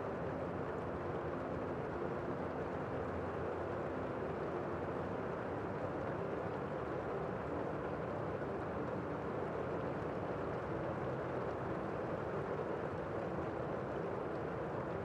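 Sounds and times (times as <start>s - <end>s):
rain heard from indoors: 0.1s - 15.0s.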